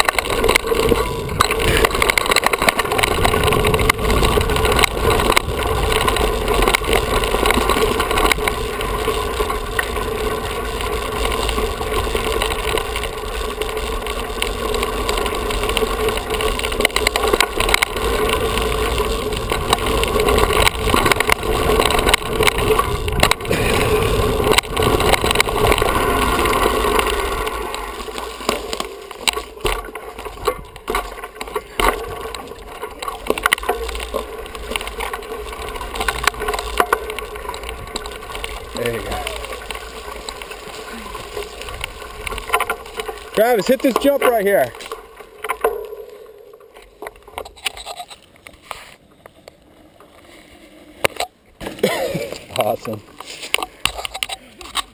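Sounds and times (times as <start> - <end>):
tyres rushing on dirt: 0.0 - 45.8
bike rattling and knocking: 0.0 - 48.6.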